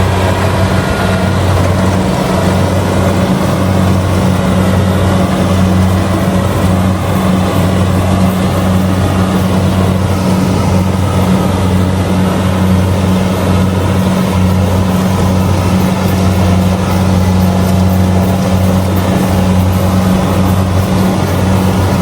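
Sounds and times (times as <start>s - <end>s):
combine harvester engine droning: 0.0s - 22.0s.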